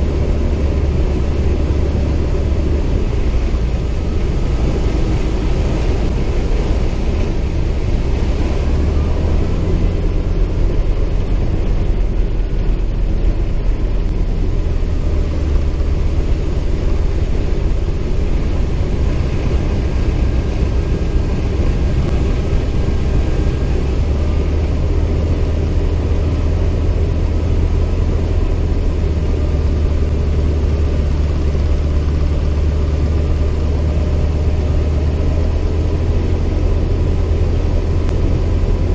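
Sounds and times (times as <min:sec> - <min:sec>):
radial aircraft engine rumbling: 0:00.0 - 0:38.9.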